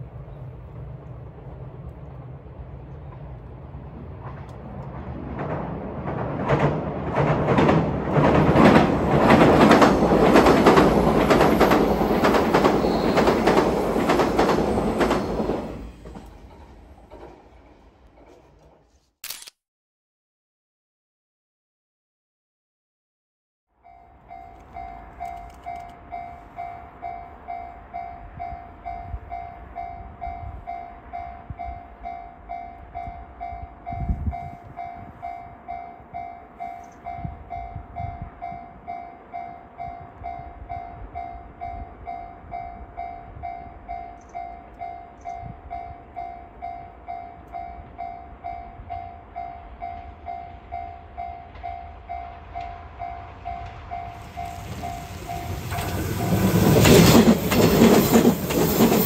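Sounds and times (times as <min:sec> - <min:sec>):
electric train rumbling: 0:00.0 - 0:18.9, 0:23.8 - 0:59.0.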